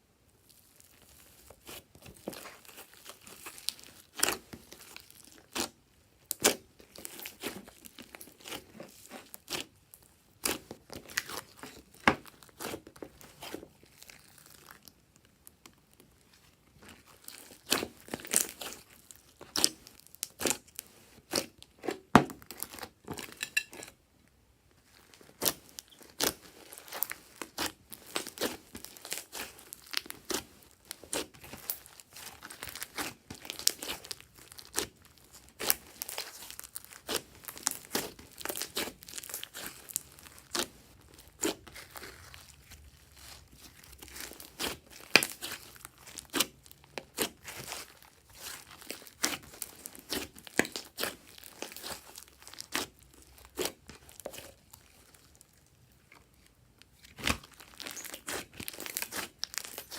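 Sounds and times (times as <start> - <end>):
slime squished by hand: 0.4 - 23.4, 24.9 - 59.9.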